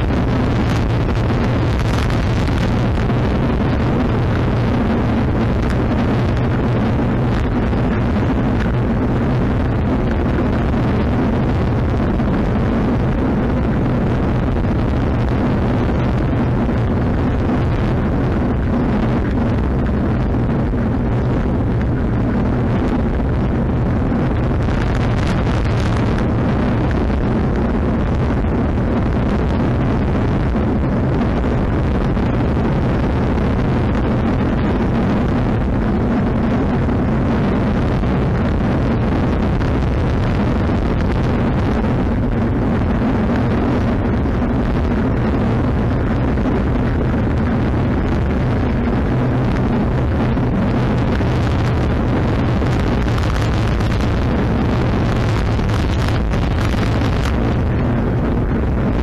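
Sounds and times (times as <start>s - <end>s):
road rumble: 0.0s - 59.0s
wind rush: 0.0s - 59.0s.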